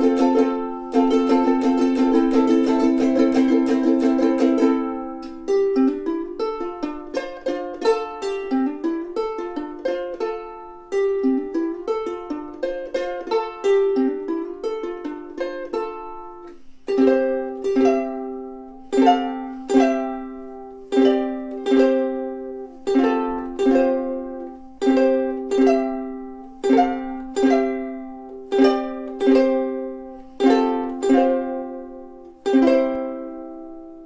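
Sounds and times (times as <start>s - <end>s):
ukulele playing: 0.0s - 34.0s.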